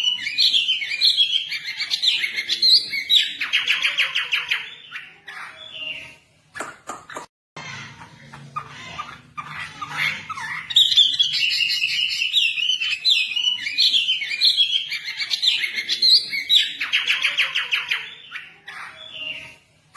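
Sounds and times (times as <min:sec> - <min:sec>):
songbird whistling and trilling: 0:00.0 - 0:06.0, 0:08.9 - 0:19.4.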